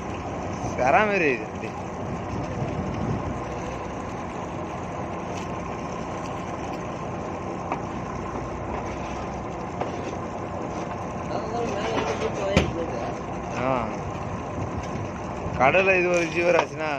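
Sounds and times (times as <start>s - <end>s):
boat engine running: 0.0s - 16.9s.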